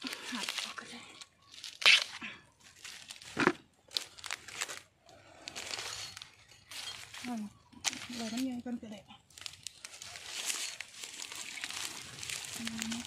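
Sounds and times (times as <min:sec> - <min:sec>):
dry leaf litter crackling: 0:00.0 - 0:13.0.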